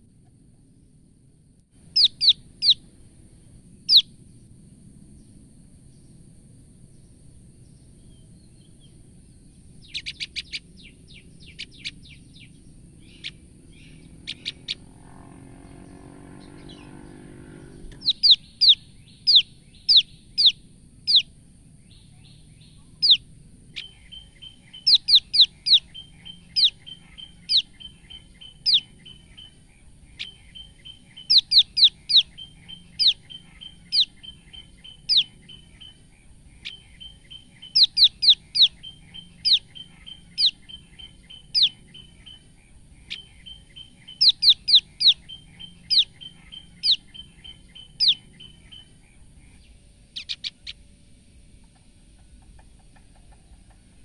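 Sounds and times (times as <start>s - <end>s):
bird alarm call chirps: 1.8s - 3.1s, 3.8s - 4.4s, 6.9s - 50.8s.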